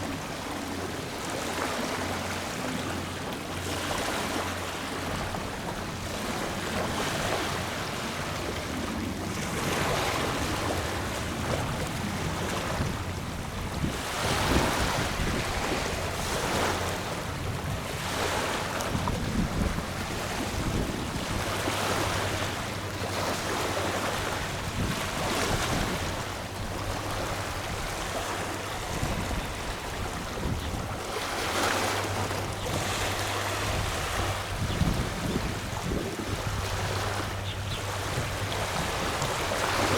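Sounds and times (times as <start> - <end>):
small waves washing onto beach: 0.0 - 39.9.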